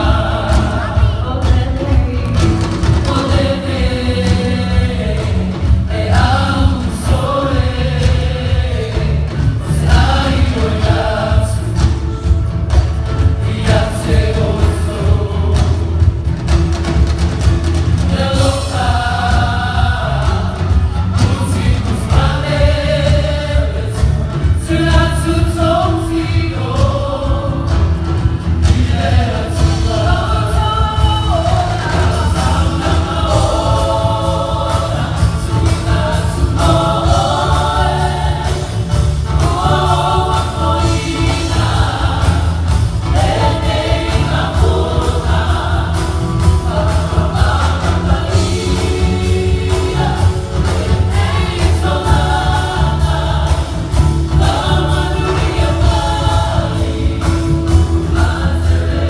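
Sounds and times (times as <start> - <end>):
live band playing: 0.0 - 59.0
mixed choir singing gospel: 0.0 - 59.0.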